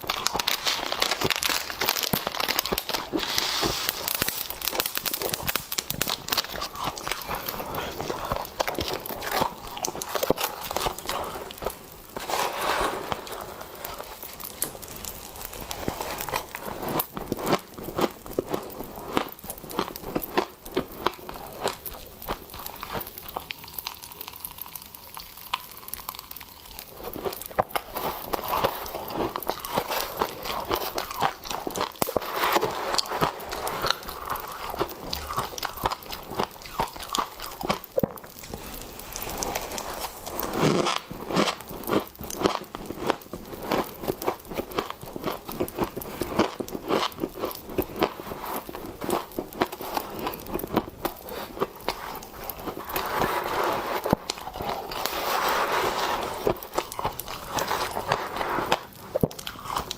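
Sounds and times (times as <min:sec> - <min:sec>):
crunching and chewing in mouth: 0:00.0 - 0:59.9
popping candy crackling: 0:00.0 - 0:59.9.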